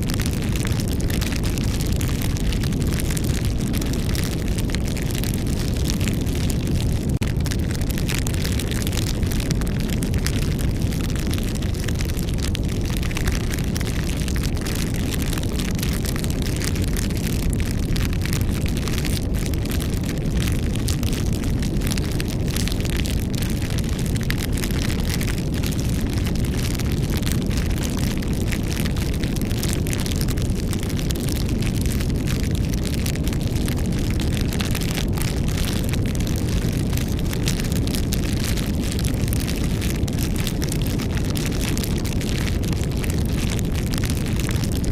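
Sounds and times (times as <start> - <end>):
campfire flame rumble: 0.0 - 44.9
fire crackles and pops: 0.0 - 44.9.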